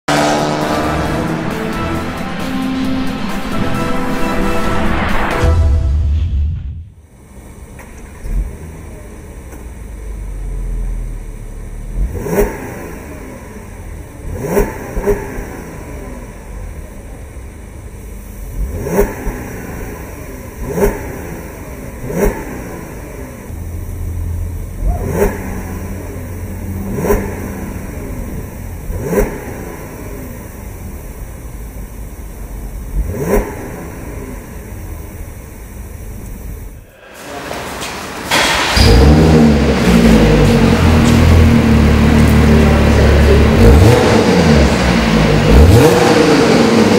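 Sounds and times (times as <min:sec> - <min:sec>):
car engine idling and revving: 0:00.0 - 0:05.6, 0:06.6 - 0:46.9.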